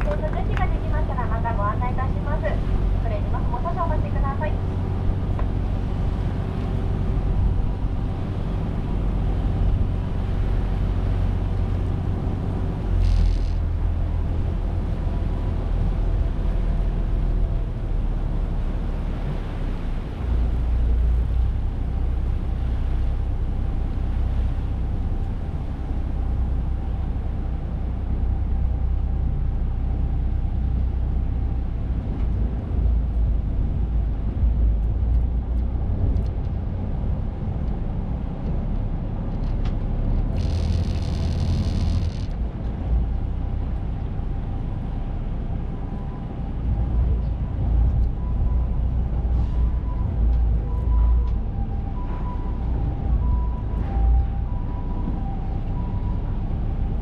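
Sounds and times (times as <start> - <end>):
boat engine rumbling: 0.0 - 57.0.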